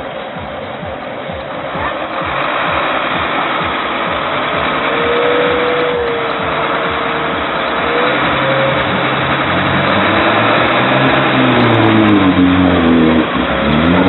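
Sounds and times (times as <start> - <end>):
diesel engine under load: 0.0 - 14.0
steady whine: 0.0 - 14.0.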